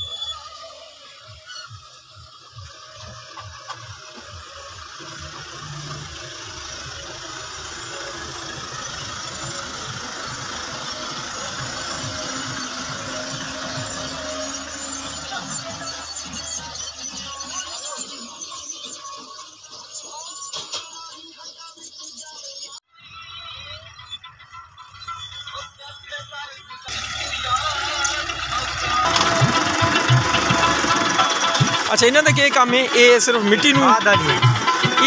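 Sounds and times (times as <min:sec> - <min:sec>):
tractor engine running: 0:00.0 - 0:21.0, 0:23.9 - 0:35.0.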